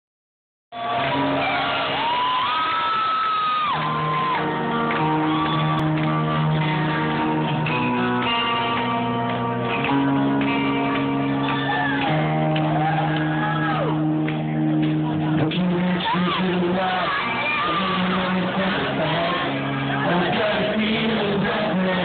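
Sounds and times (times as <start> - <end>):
crowd screaming and cheering: 0.7 - 22.0
live electric guitar chords: 0.8 - 22.0.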